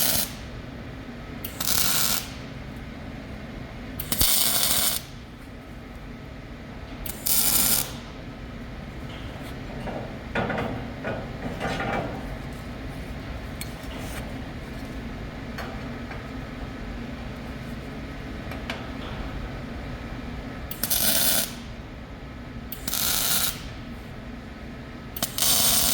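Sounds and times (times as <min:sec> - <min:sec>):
low workshop hum: 0:00.0 - 0:25.9.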